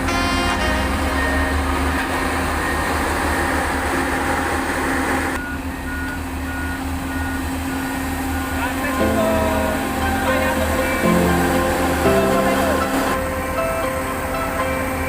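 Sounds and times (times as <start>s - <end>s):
back-up alarm beeping: 0.0s - 4.4s, 5.3s - 15.0s
heavy machinery engine humming: 0.0s - 15.0s.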